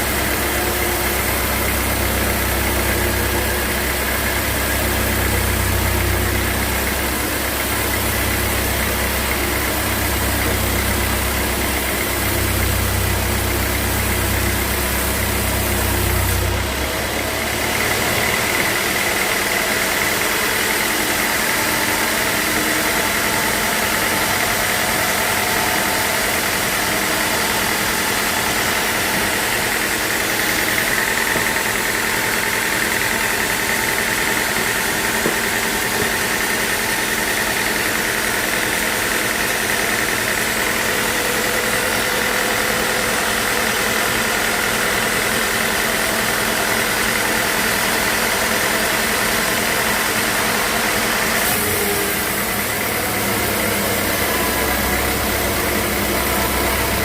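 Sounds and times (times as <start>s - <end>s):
machinery droning: 0.0s - 57.0s.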